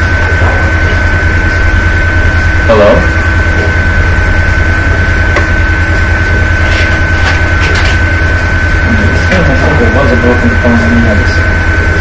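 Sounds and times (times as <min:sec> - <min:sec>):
phone line hum: 0:00.0 - 0:12.0
thin whine on phone line: 0:00.0 - 0:12.0.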